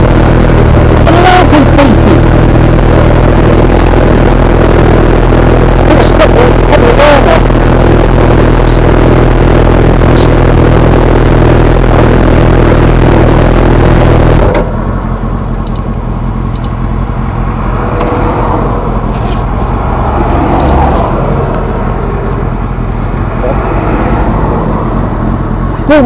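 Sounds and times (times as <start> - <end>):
heavy noise: 0.0 - 26.0
motorcycle engine running: 0.0 - 26.0.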